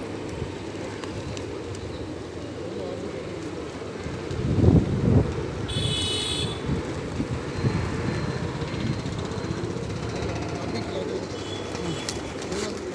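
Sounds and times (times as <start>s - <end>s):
low rumbling outdoor noise: 0.0s - 12.9s.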